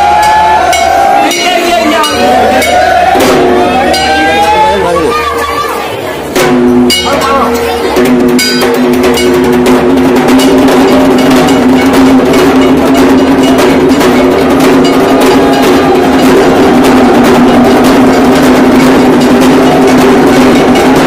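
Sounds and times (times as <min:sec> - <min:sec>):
fast metallic bell strikes: 0:00.0 - 0:04.8, 0:06.4 - 0:21.0
festival drums: 0:00.0 - 0:21.0.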